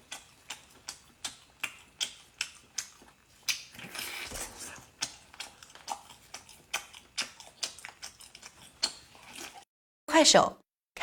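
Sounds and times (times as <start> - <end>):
close-miked wet chewing: 0.0 - 9.6.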